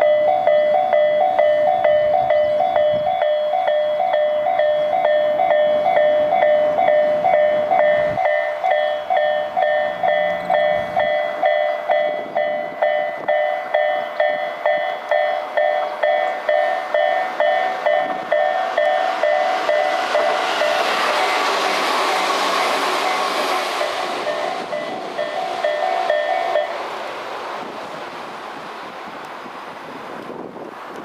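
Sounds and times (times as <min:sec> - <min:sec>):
level crossing warning bells: 0:00.0 - 0:27.0
train running noise: 0:00.0 - 0:31.0.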